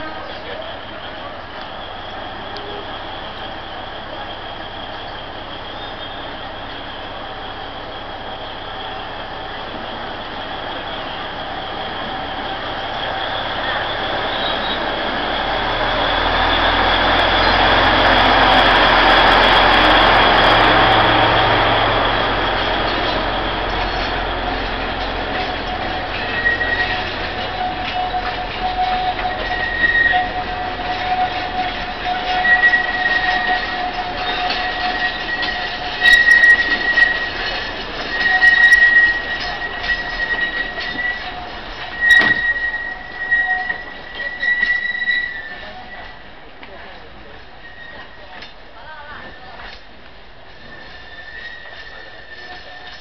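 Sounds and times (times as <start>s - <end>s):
diesel locomotive engine humming: 0.0s - 53.0s
train cars rolling on track: 0.0s - 53.0s.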